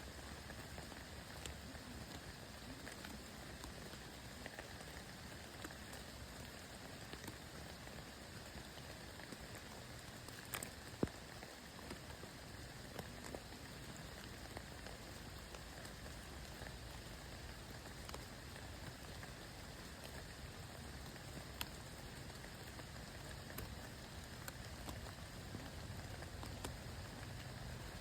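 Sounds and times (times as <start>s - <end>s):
light rain hissing: 0.0s - 28.0s
raindrops tapping: 0.0s - 28.0s.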